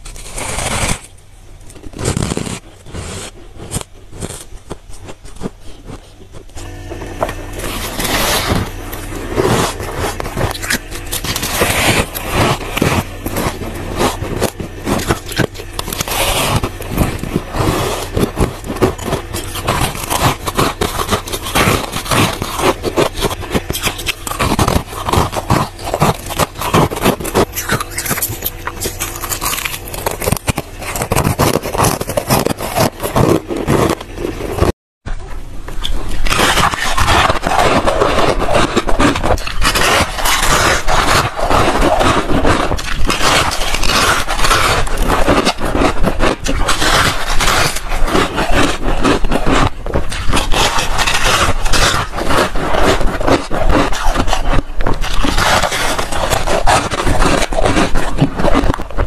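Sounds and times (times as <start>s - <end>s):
steady low hum: 0.0s - 59.0s
frost being bitten and chewed: 3.6s - 34.7s, 35.8s - 59.0s.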